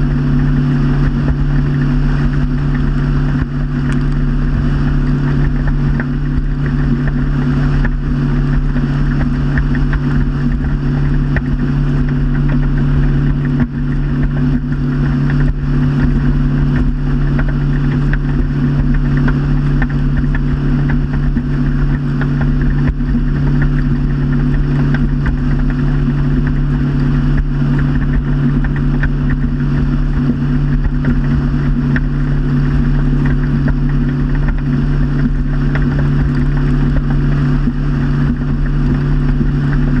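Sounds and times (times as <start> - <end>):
motorboat engine drone: 0.0 - 40.0
rush of water: 0.0 - 40.0
wind noise: 0.0 - 40.0.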